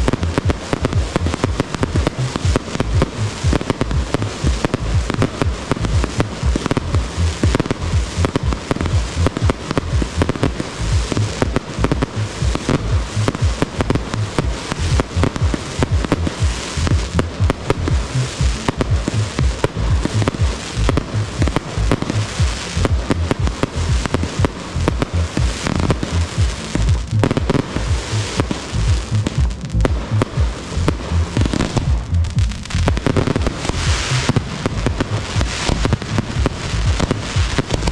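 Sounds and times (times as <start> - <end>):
fireworks bangs and crackle: 0.0 - 37.9.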